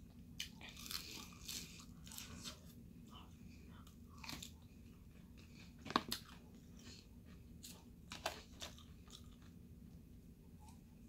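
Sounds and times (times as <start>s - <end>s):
chewing crispy chicken: 0.4s - 9.6s.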